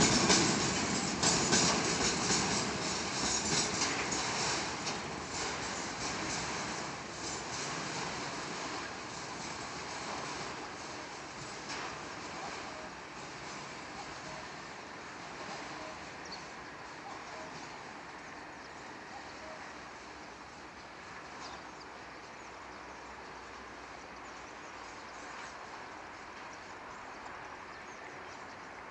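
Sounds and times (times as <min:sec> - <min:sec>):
distant freight train rumbling: 0:00.0 - 0:28.9.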